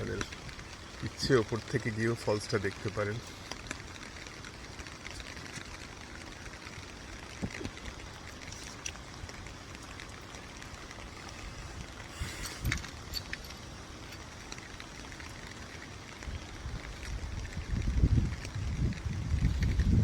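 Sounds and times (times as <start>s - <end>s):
outdoor background rush: 0.0s - 20.0s.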